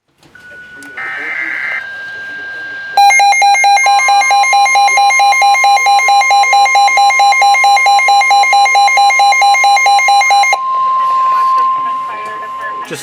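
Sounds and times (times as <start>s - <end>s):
rapid harsh beeping: 0.4s - 13.0s
steady warning alert tone: 0.4s - 13.0s.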